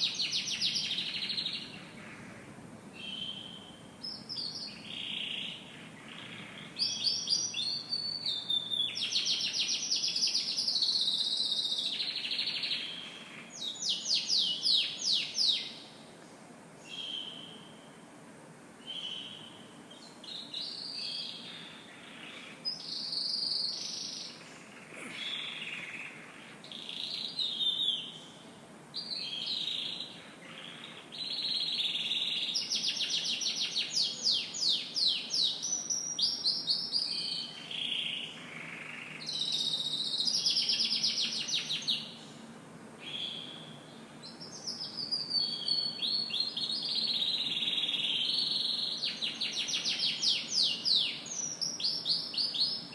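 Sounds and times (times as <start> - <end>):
canary singing: 0.0 - 2.3, 3.0 - 16.0, 18.8 - 28.4, 29.0 - 42.3, 43.0 - 52.9.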